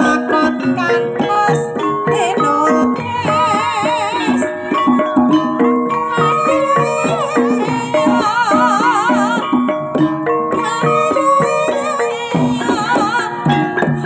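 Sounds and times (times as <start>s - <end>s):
gamelan gong-chimes and metallophones: 0.0s - 14.0s
woman singing wavering notes: 0.0s - 14.0s.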